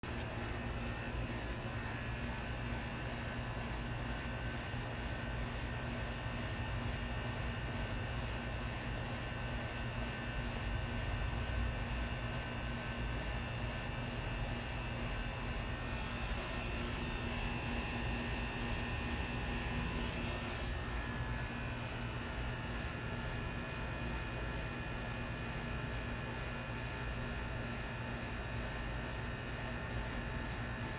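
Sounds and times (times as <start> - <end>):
steady low hum and buzz: 0.0 - 30.9.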